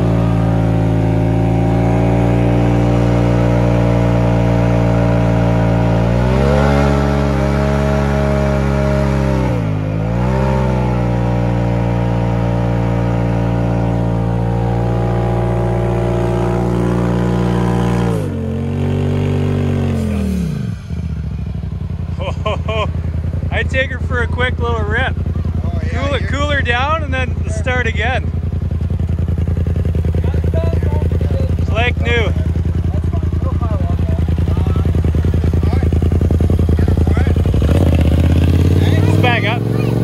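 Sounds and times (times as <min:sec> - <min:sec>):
engine at high revs: 0:00.0 - 0:40.0
tires spinning: 0:00.0 - 0:40.0.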